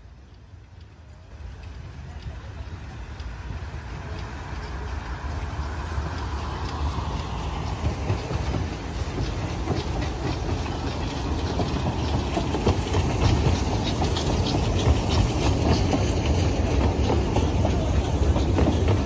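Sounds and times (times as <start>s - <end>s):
train low rumble: 0.0s - 19.0s
wheels clattering over rail joints: 0.0s - 19.0s.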